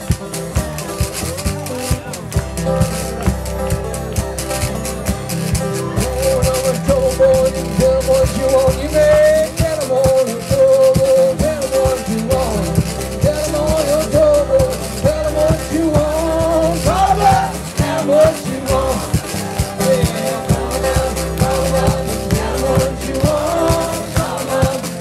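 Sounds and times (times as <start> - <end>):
twelve-string acoustic guitar picking: 0.0 - 25.0.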